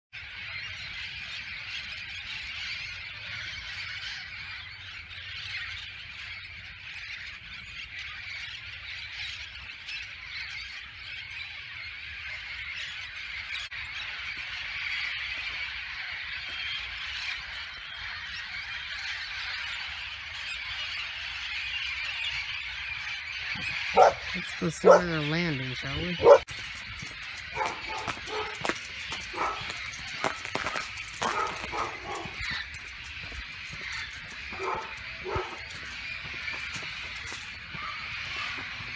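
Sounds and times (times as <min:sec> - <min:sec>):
flock of parrots calling: 0:00.2 - 0:38.9.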